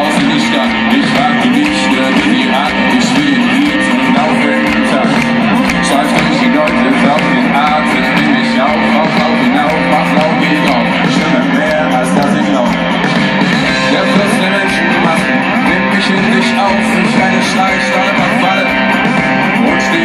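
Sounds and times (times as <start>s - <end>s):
electric guitars: 0.0s - 20.0s
live rock band playing: 0.0s - 20.0s.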